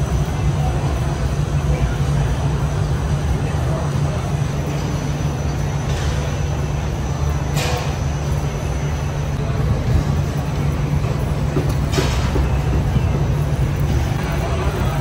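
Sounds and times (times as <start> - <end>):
low mechanical drone with hiss: 0.0 - 15.0.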